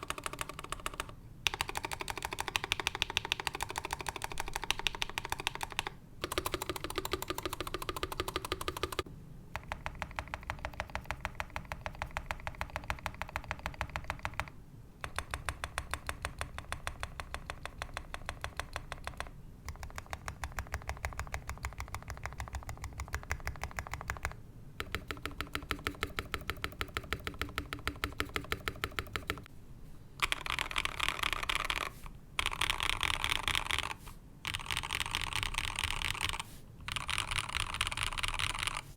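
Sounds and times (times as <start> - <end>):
keyboard typing clatter: 0.0 - 29.5, 30.2 - 38.8.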